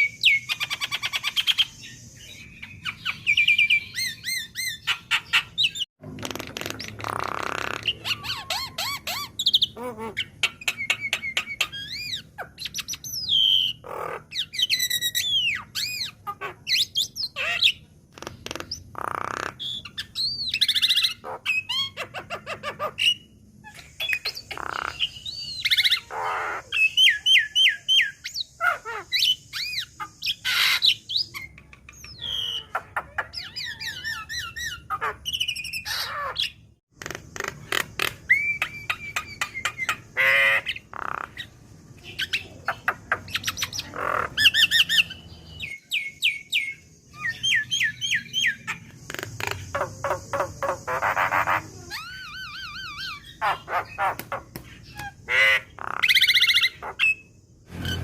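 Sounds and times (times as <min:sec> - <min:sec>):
bird whistling and squawking: 0:00.0 - 0:05.9, 0:06.6 - 0:17.8, 0:18.7 - 0:36.6, 0:38.0 - 0:48.8, 0:49.4 - 0:58.0.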